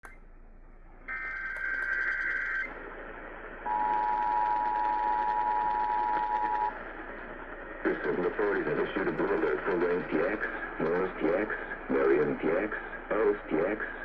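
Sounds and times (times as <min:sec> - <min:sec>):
radio hiss: 0:01.0 - 0:14.0.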